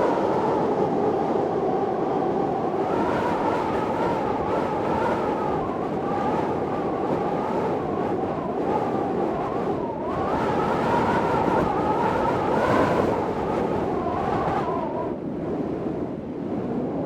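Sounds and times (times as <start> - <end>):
wavering wind whistle: 0.0 - 15.2
storm wind blowing: 0.0 - 17.0.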